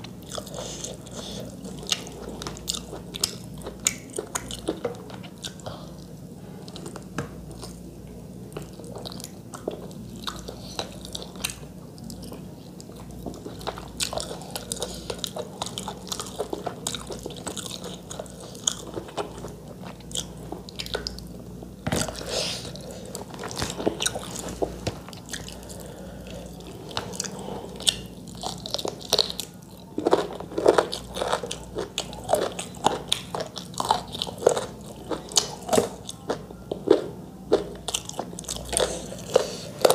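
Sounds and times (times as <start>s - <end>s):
chewing and biting food: 0.0s - 7.8s, 8.6s - 21.4s, 22.0s - 39.9s
steady low hum: 0.0s - 39.9s.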